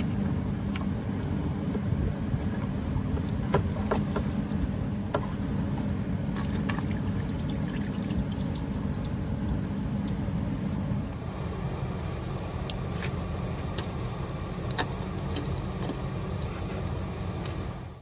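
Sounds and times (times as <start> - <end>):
coolant trickling and splashing: 2.3 - 17.8.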